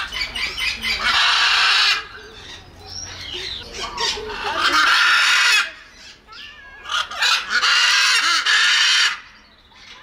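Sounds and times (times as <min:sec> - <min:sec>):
parrot calling and screeching: 0:00.0 - 0:10.0.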